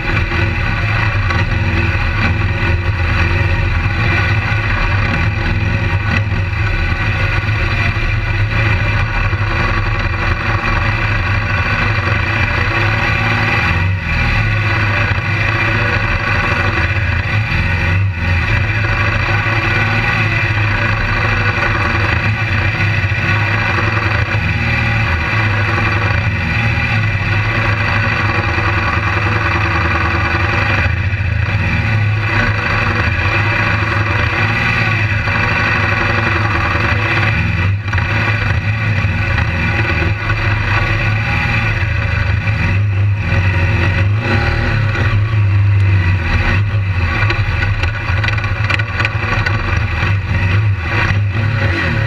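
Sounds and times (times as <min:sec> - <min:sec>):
motorcycle engines running: 0:00.0 - 0:52.0.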